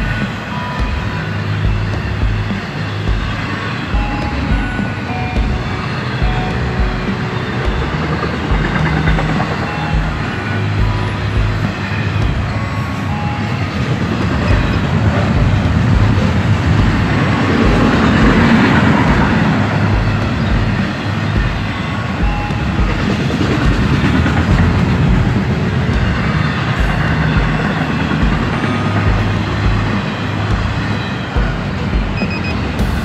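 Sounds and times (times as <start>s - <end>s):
freight train rumbling: 0.0s - 33.0s.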